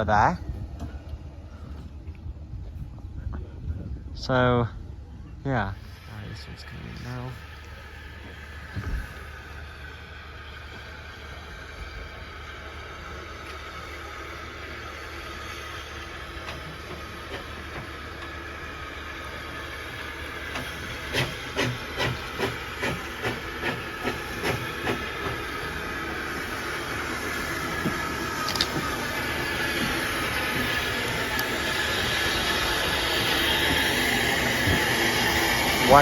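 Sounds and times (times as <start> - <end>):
steam hiss: 5.8 - 36.0.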